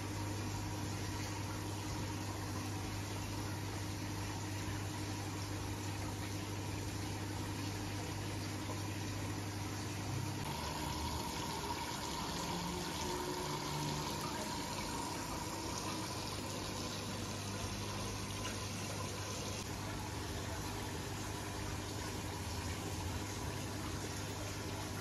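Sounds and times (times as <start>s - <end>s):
low pump hum: 0.0s - 25.0s
water splashing and trickling: 0.2s - 25.0s.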